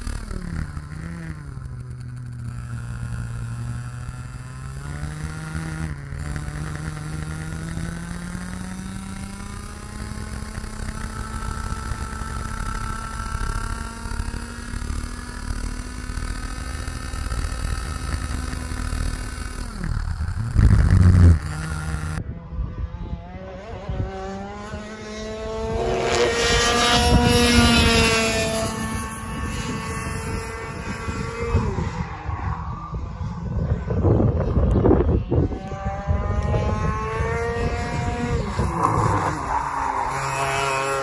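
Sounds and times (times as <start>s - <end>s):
kart engine passing by: 0.0s - 41.0s
kart engine running on board: 0.0s - 41.0s.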